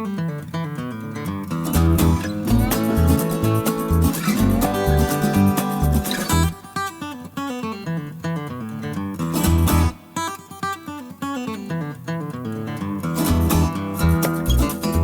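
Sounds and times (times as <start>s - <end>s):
acoustic guitar music over a beat: 0.0s - 15.0s.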